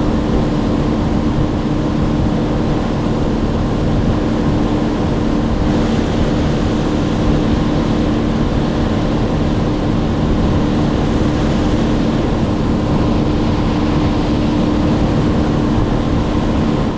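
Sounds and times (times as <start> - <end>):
engine droning steadily: 0.0 - 16.9.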